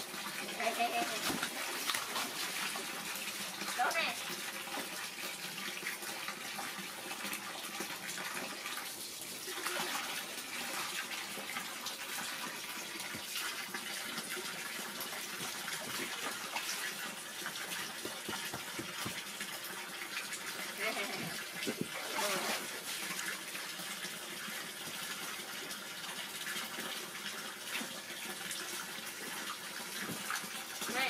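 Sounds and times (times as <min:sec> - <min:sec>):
water splashing in a pool: 0:00.0 - 0:31.0.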